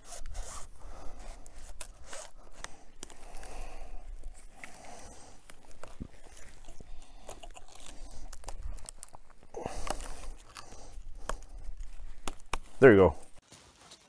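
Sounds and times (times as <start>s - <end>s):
cord scraping on bark: 0.0s - 14.0s.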